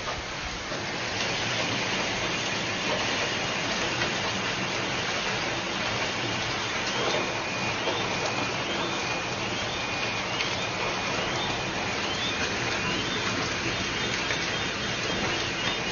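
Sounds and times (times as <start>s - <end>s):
hail falling on pavement: 0.0s - 15.9s.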